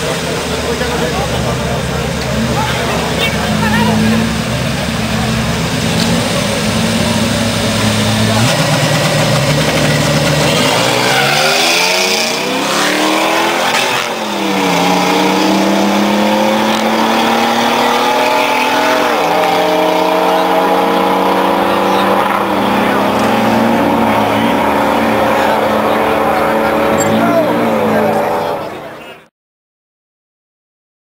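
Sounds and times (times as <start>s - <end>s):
car engine accelerating hard: 0.0s - 29.2s.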